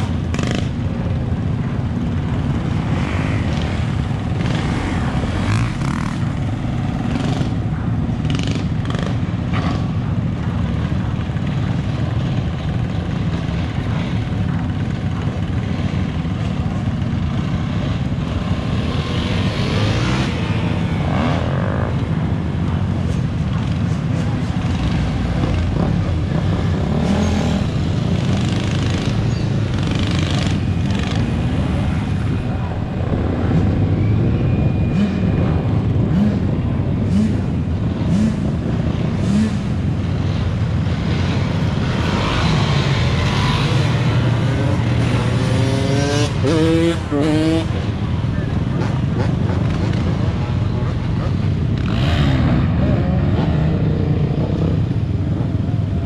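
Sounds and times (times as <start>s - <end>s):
dirt bike engines idling and revving: 0.0s - 56.0s.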